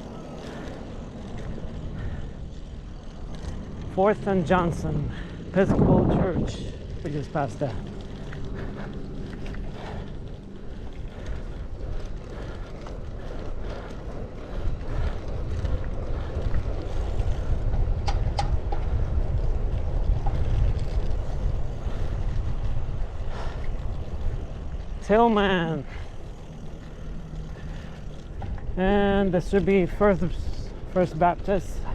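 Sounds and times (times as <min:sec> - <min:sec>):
wind rushing over microphone: 0:00.0 - 0:31.9.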